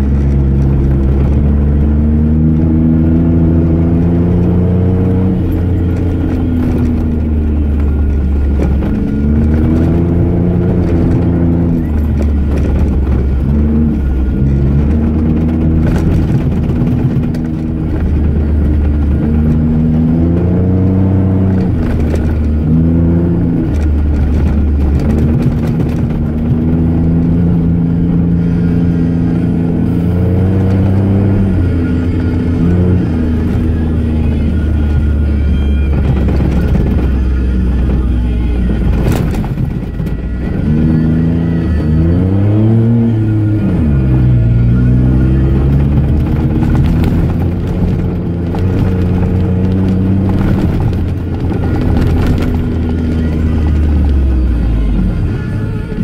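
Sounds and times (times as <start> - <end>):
car engine revving: 0.0 - 56.0
tyre noise: 0.0 - 56.0.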